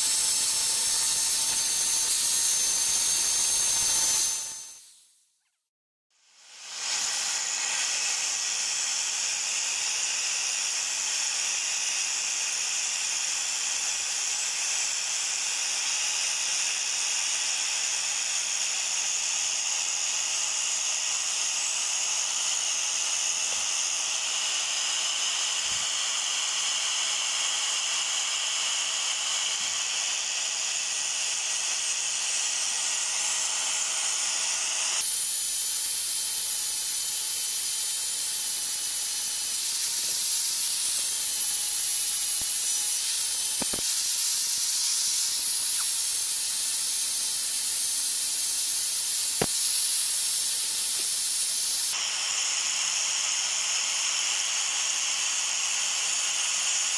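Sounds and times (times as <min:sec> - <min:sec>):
angle grinder grinding metal: 0:00.0 - 0:05.0, 0:06.5 - 0:12.2, 0:20.7 - 0:56.9.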